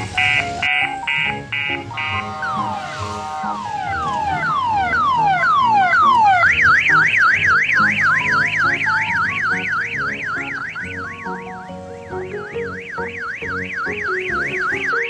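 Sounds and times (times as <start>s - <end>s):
background music: 0.0s - 15.0s
electronic siren whooping: 0.0s - 15.0s.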